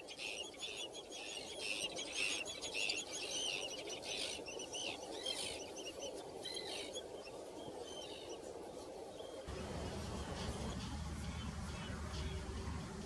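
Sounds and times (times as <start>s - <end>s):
birds chirping: 0.0s - 13.0s
steady background hiss: 0.0s - 13.0s.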